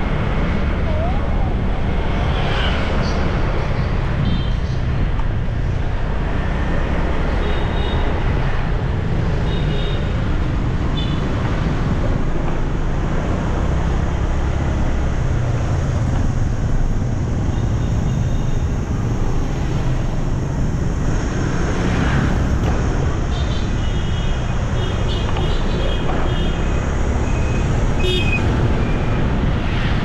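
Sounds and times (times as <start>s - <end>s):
motorbike road noise: 0.0s - 30.0s.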